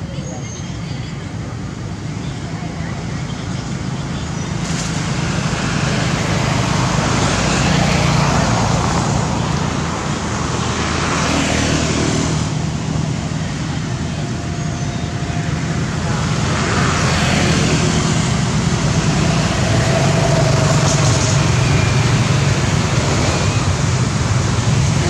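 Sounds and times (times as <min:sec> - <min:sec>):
vehicle engine hum: 0:00.0 - 0:25.0
rushing noise: 0:04.3 - 0:25.0.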